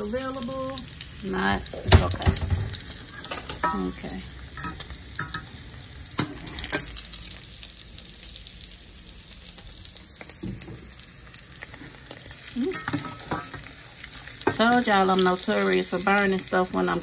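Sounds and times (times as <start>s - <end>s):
sausages sizzling in a pan: 0.0s - 17.0s.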